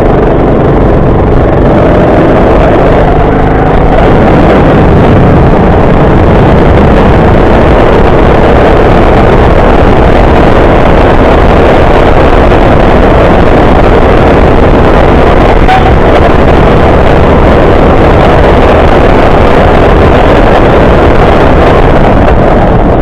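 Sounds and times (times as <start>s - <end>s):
go-kart engine running: 0.0s - 23.0s
wind buffeting microphone: 0.0s - 23.0s.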